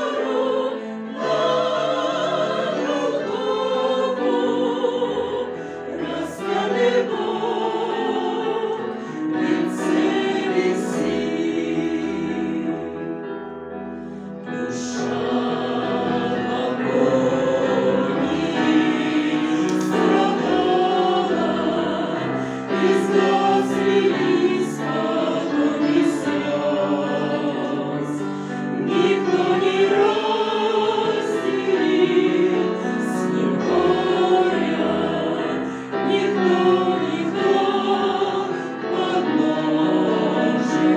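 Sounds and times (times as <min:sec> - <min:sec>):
choir singing: 0:00.0 - 0:40.9.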